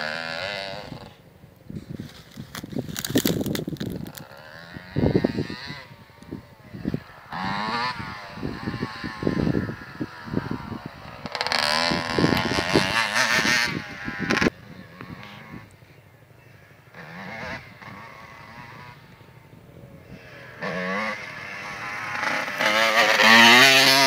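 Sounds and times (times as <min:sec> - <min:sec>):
motorbike engine revving: 0:00.0 - 0:01.2, 0:02.0 - 0:24.0.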